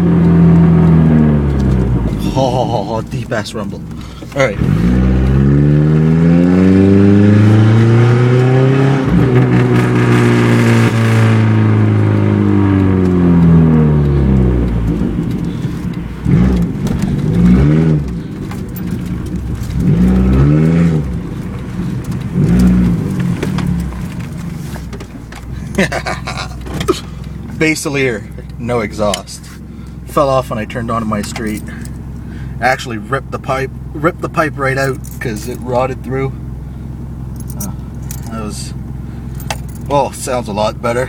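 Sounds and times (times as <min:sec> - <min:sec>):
car engine revving loudly: 0:00.0 - 0:41.0.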